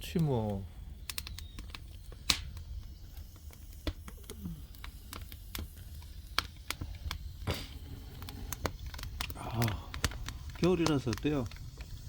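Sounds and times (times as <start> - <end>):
firewood crackling: 0.0 - 12.0.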